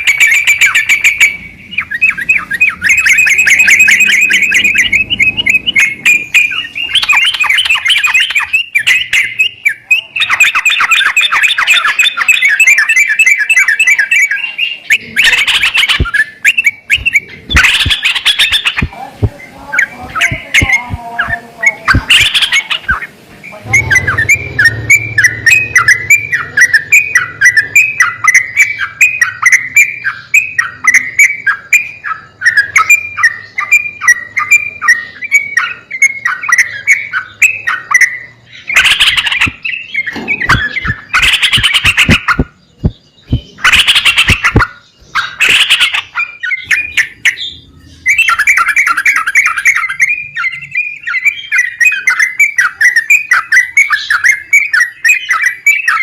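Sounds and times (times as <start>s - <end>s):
bulbul chattering song: 0.0s - 56.0s.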